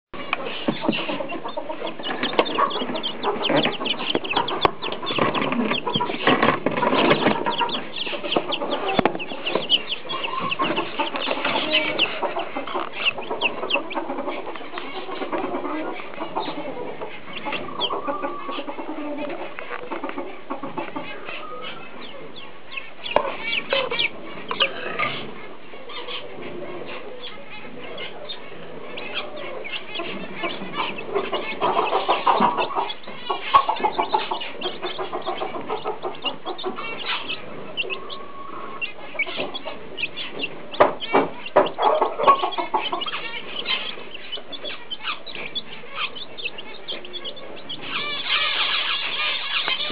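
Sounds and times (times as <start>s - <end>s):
chicks peeping: 0.1s - 49.9s.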